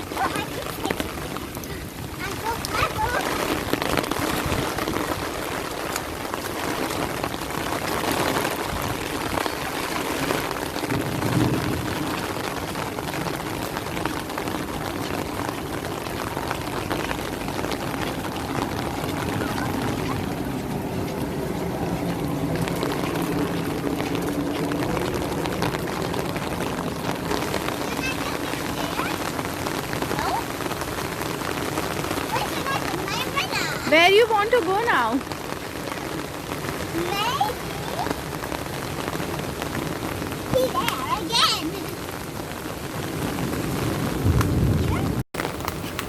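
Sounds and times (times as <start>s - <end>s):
rain falling and splashing: 0.0s - 46.0s.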